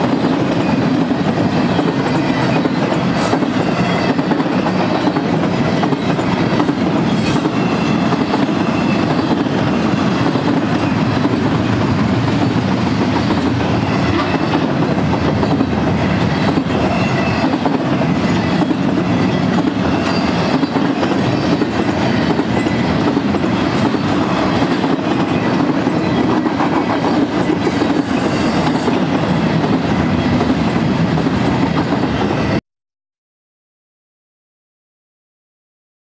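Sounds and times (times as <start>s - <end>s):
train wheels rumbling on rail: 0.0s - 32.6s.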